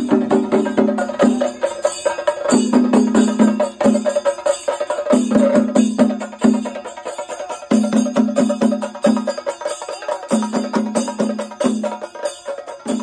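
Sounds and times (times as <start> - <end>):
drum ensemble beating rapidly: 0.0 - 13.0.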